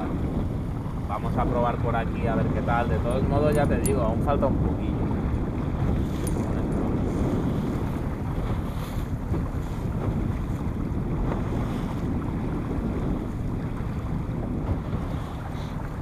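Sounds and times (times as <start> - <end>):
water slapping against hull: 0.0 - 16.0
wind buffeting microphone: 0.0 - 16.0.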